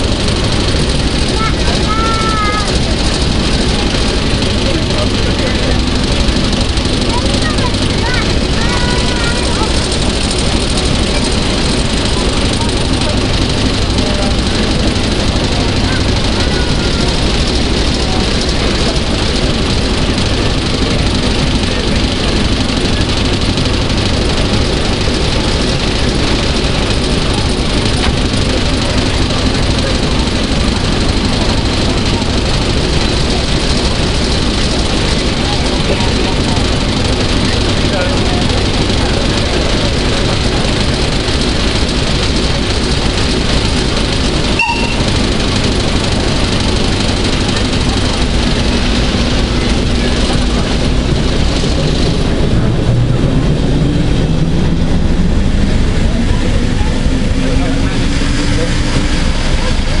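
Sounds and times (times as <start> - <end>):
diesel locomotive engine idling: 0.0 - 60.0.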